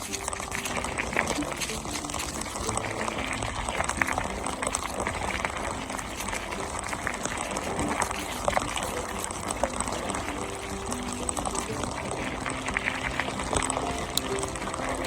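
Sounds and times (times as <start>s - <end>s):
bike tyre noise: 0.0s - 15.0s.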